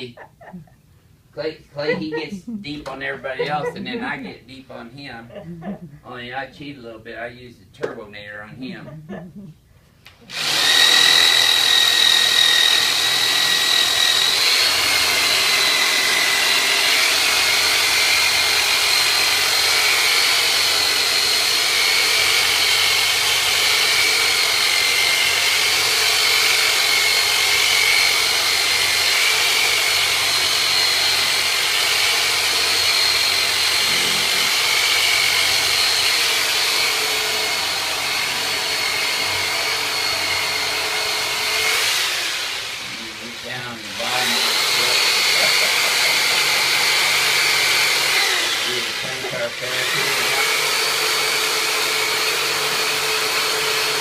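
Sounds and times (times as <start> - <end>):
massage device motor whining: 10.1 - 54.0.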